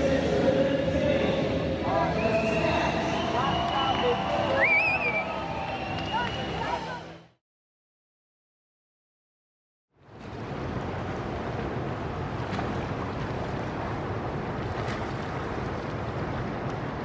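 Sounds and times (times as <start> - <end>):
pool water rushing: 0.0 - 7.2, 10.0 - 17.0.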